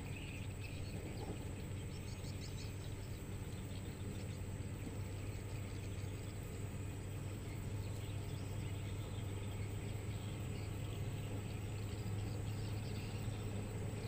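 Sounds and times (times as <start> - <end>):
diesel engine droning: 0.0 - 14.0
faint bird chirps: 0.0 - 14.0.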